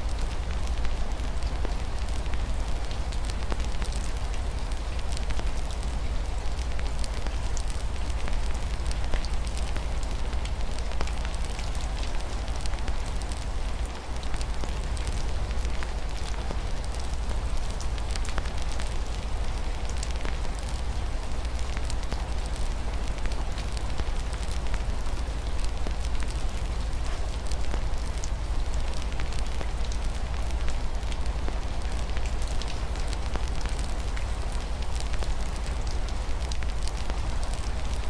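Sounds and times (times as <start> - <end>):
rain on a window: 0.0 - 38.0
wood fire crackling: 0.0 - 38.0.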